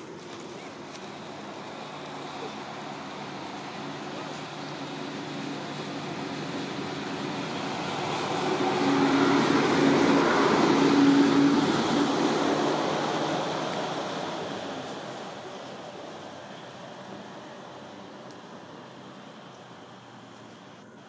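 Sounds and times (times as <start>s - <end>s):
vehicle passing by: 0.0s - 20.8s.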